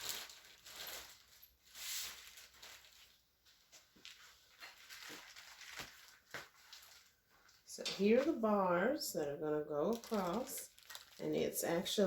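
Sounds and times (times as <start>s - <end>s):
packaging rustle: 0.0s - 7.6s, 9.9s - 12.0s.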